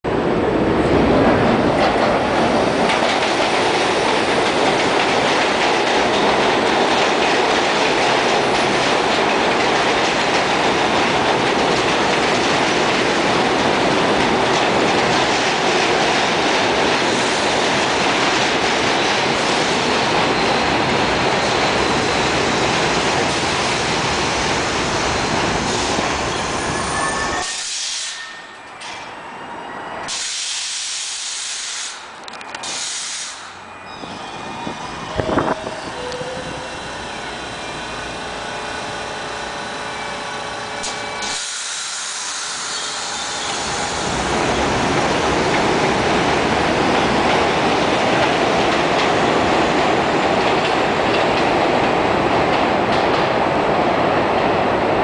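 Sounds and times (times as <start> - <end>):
subway train wheel and rail noise: 0.0 - 55.0.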